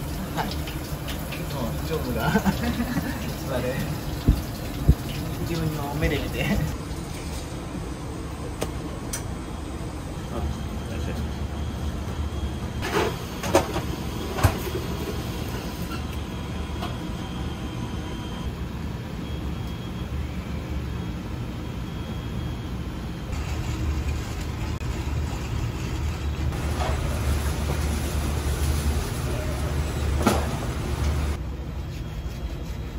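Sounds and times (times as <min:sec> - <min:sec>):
kitchen machine hum: 0:00.0 - 0:32.9.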